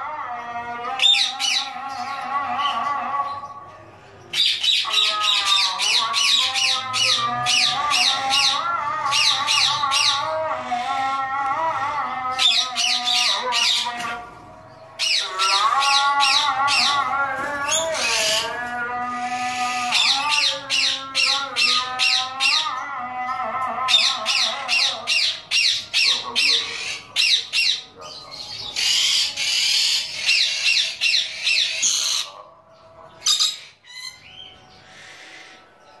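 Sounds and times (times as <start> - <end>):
lorikeet screeching: 1.0 - 3.5, 4.3 - 11.2, 12.4 - 14.0, 15.0 - 22.8, 23.9 - 32.4, 33.2 - 35.8.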